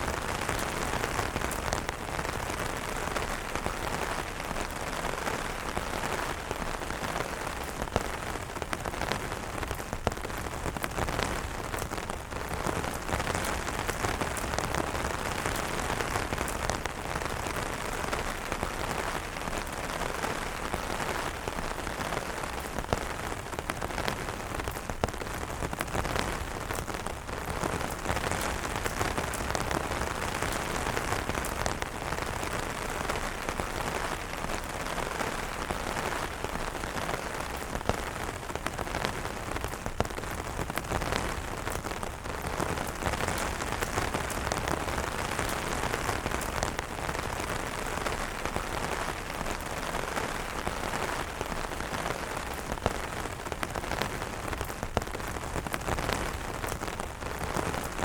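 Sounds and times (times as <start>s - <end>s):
rain on umbrella fabric: 0.0s - 58.0s
raindrops ticking: 0.0s - 58.0s.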